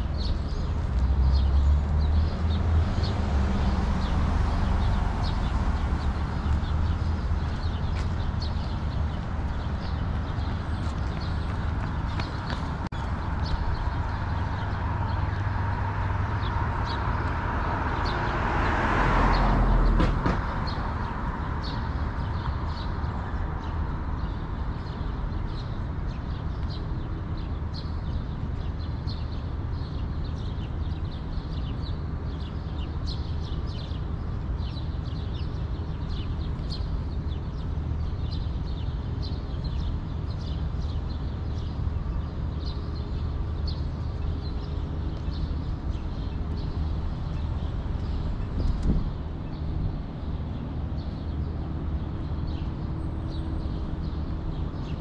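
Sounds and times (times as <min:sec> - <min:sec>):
birds chirping: 0:00.0 - 0:55.0
low city rumble: 0:00.0 - 0:55.0.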